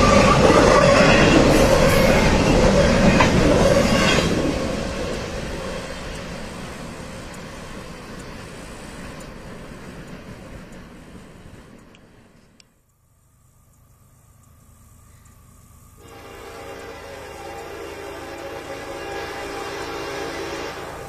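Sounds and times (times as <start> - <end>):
wheel on rail ringing: 0.0 - 12.3, 16.0 - 21.0
train wheels clicking over rail joints: 0.0 - 12.6, 13.8 - 21.0.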